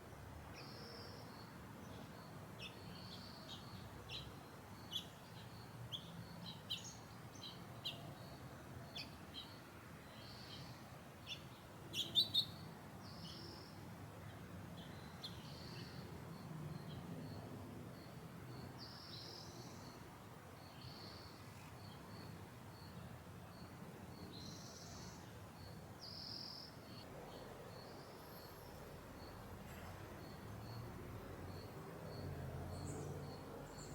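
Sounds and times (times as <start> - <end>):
low background noise: 0.0 - 33.9.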